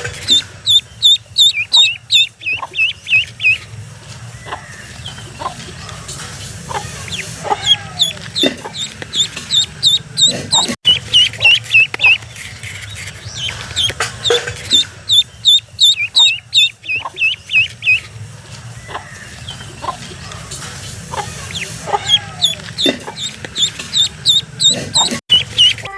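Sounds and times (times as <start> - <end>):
duckling peeping: 0.0 - 25.9.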